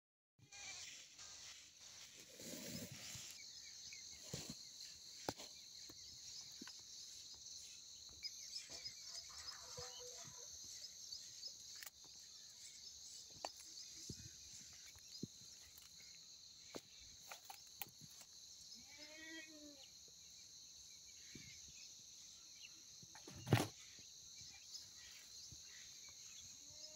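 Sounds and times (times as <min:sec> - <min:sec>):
crickets trilling: 0:00.5 - 0:26.9.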